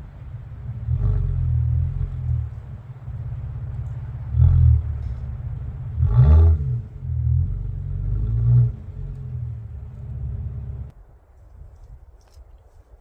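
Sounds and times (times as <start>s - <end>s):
vehicle engine revving: 0.0s - 10.9s.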